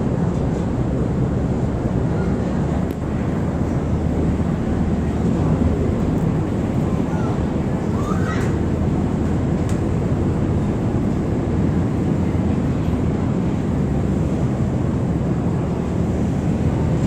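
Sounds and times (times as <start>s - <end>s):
ferry engine droning: 0.0s - 17.0s.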